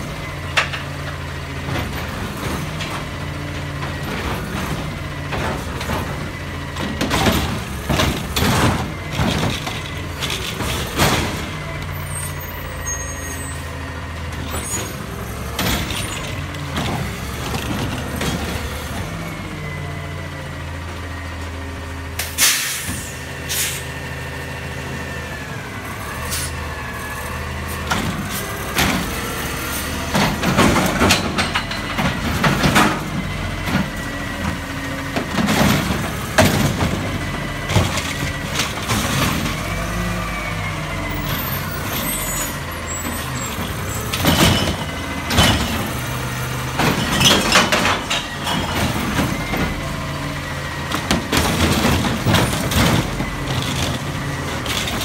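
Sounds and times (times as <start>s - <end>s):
clunks and knocks of cart: 0.0s - 12.8s, 14.2s - 19.5s, 27.7s - 55.0s
diesel engine hum: 0.0s - 55.0s.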